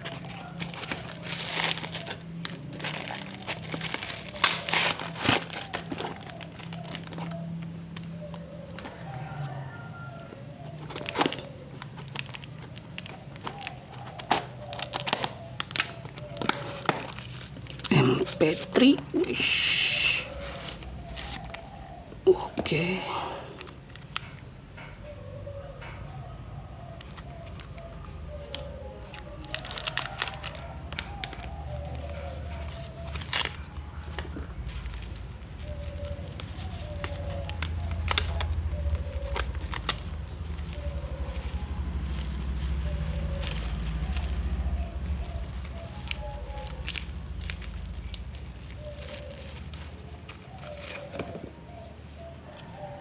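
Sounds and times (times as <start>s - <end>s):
plastic and cardboard crackling: 0.0s - 24.9s, 26.8s - 53.0s.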